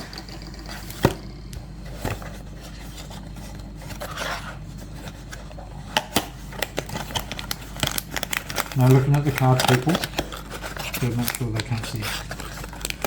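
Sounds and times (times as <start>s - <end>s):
cardboard rubbing and scraping: 0.7s - 13.0s.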